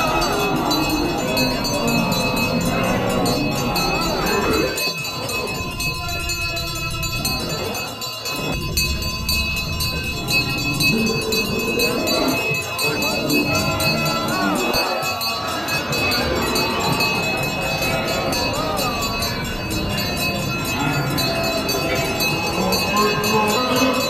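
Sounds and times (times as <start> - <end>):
bells ringing: 0.0 - 24.0
wavering melody: 0.0 - 24.0.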